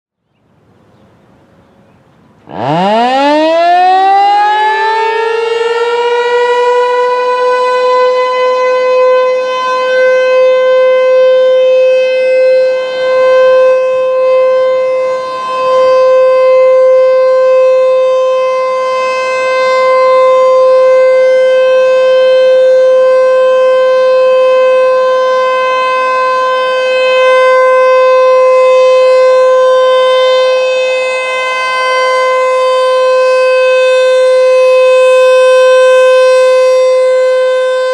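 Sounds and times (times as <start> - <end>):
steady warning siren tone: 2.4 - 37.9.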